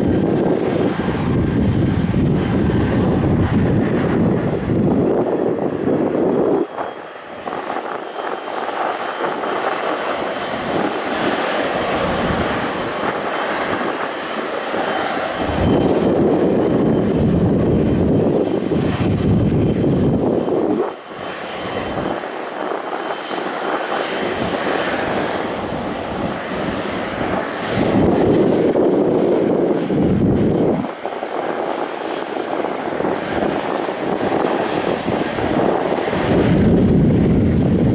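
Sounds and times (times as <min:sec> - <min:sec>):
aircraft engines rushing: 0:00.0 - 0:37.9.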